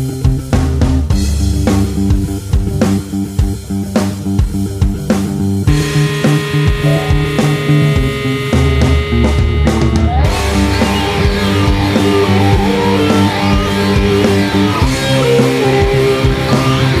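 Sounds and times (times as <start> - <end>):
rock band instrumental: 0.0 - 17.0.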